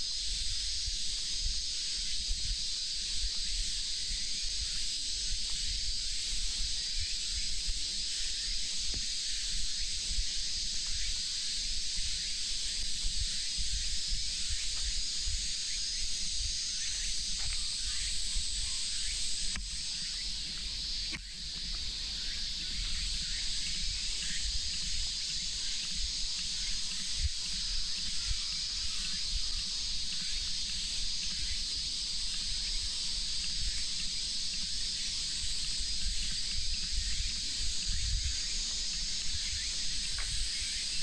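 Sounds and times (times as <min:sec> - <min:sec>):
cicadas buzzing: 0:00.0 - 0:41.0.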